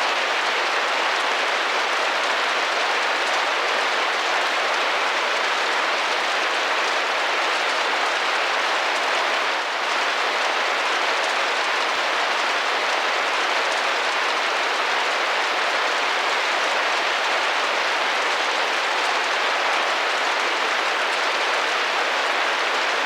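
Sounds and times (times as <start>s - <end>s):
rain pattering on a window: 0.0s - 23.0s.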